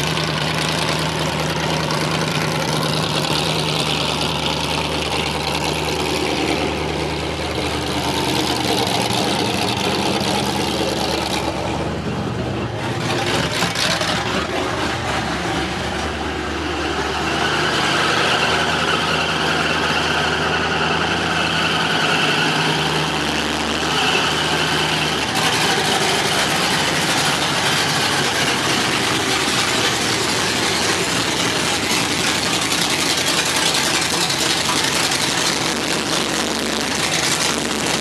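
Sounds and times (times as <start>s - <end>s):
car engine idling and rumbling: 0.0s - 38.0s.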